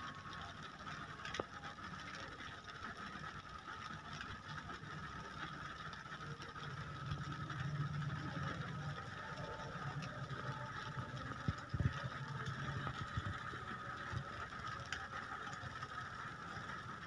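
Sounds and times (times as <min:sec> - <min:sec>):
rain on a car roof: 0:00.0 - 0:17.0.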